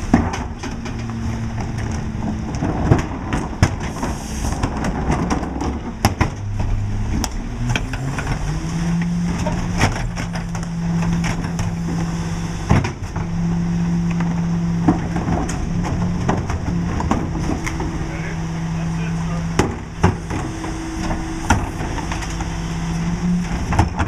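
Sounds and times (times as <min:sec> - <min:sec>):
garbage truck diesel engine: 0:00.0 - 0:24.0
hydraulic packer running: 0:00.0 - 0:24.0.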